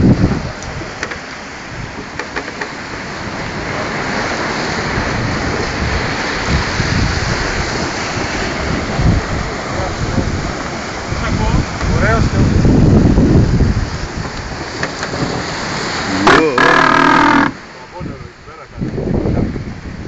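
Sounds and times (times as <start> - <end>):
water rushing along hull: 0.0 - 20.0
wind gusting on microphone: 0.0 - 20.0.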